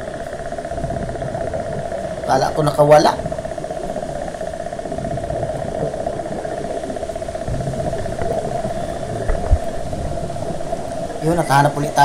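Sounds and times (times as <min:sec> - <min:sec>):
low rumble: 0:00.0 - 0:12.0
underwater droning hum: 0:00.0 - 0:12.0.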